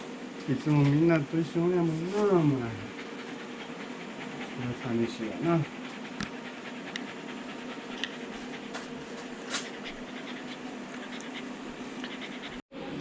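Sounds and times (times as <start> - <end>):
steady low hum: 0.0 - 13.0
dog panting quickly: 1.6 - 12.6.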